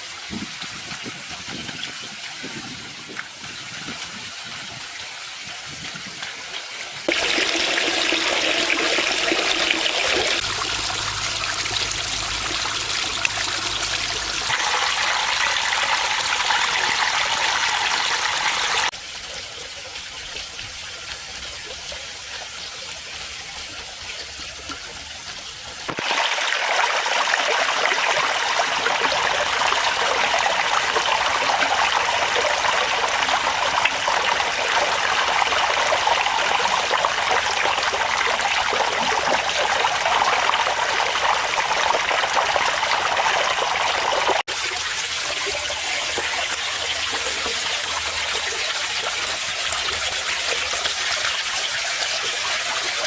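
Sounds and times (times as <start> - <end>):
waterfall trickling and splashing: 0.0 - 53.0.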